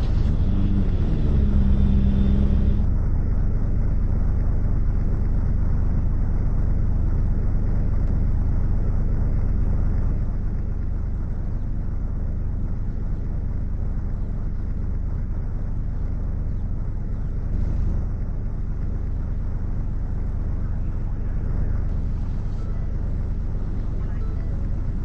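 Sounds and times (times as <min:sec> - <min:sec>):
vehicle rumble: 0:00.0 - 0:25.0.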